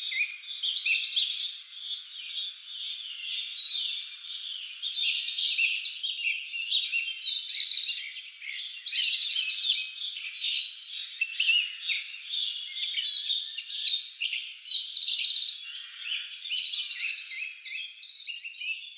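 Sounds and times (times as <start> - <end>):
small birds chirping and trilling: 0.0 - 18.9.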